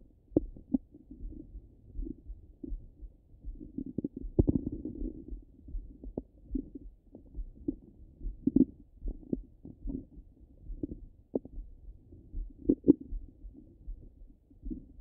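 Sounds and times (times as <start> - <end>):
stomach gurgles and pops: 0.3 - 15.0.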